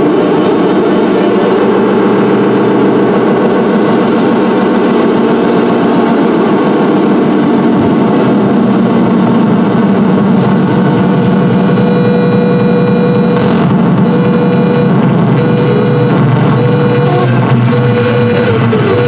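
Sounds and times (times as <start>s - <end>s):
electronic noise music drone: 0.0s - 19.0s.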